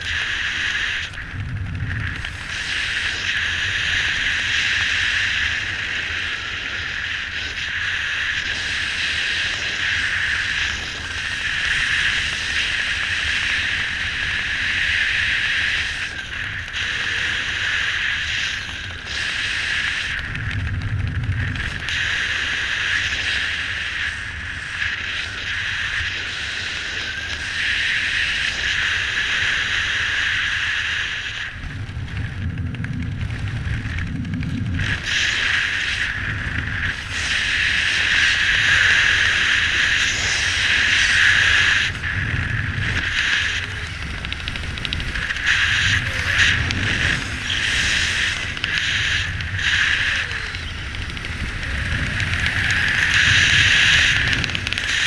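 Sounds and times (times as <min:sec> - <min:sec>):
airflow hissing over microphone: 0:00.0 - 0:55.0
wind gust buffeting microphone: 0:00.0 - 0:55.0.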